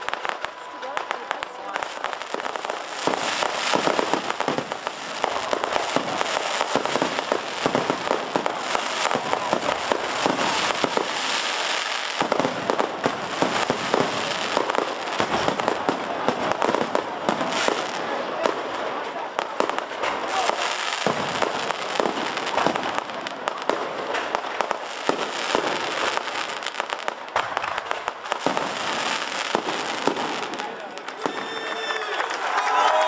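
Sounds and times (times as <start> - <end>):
fireworks bangs and pops: 0.0 - 32.4.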